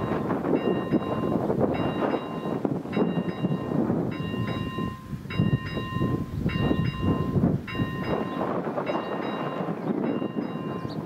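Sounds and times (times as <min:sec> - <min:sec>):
level-crossing bell chiming: 0:00.0 - 0:11.0.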